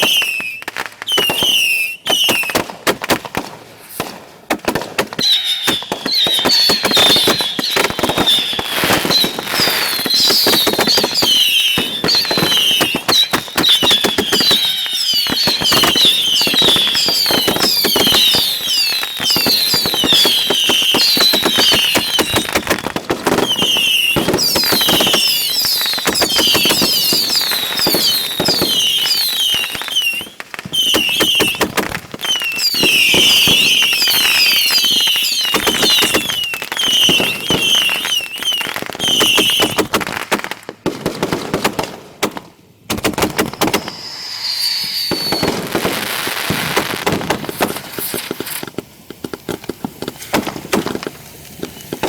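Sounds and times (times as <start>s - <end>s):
fireworks whistles: 0.0s - 41.9s, 42.9s - 52.0s
fireworks bangs and crackling: 0.0s - 52.0s.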